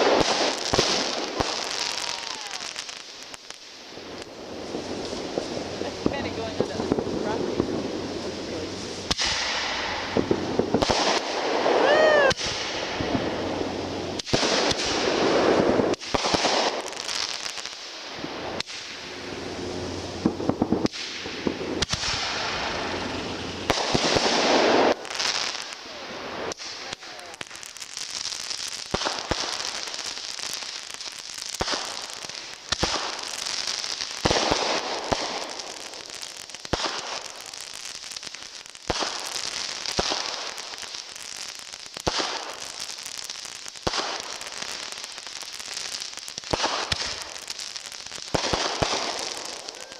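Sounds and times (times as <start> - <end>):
dense fireworks crackling: 0.0 - 49.9
fireworks bangs: 0.0 - 49.9.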